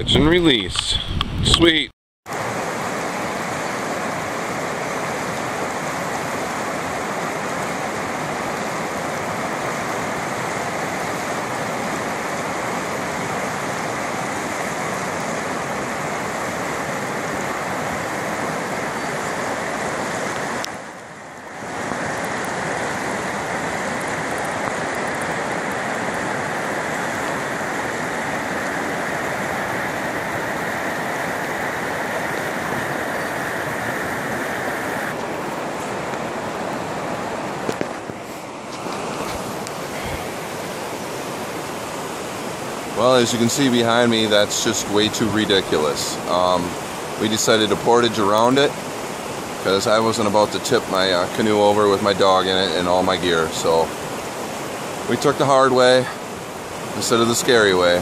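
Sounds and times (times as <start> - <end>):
water rushing over rocks: 1.6 - 58.0.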